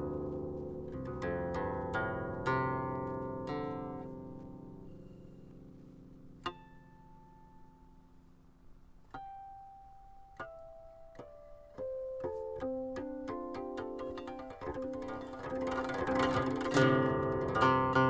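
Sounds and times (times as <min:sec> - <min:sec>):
zither plucked notes: 0:00.0 - 0:18.0.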